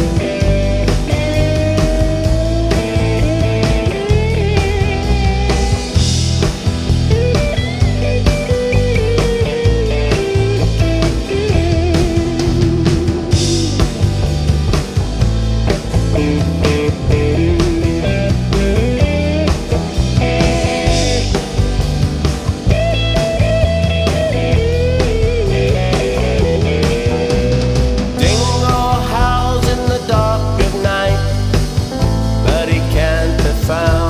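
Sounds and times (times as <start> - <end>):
lead guitar melody: 0.0 - 34.0
rock band playing: 0.0 - 34.0.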